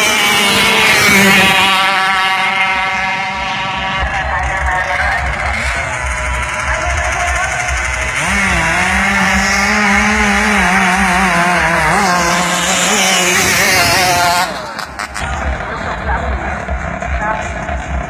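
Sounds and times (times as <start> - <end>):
boat engine revving hard: 0.0 - 4.1, 5.2 - 15.6.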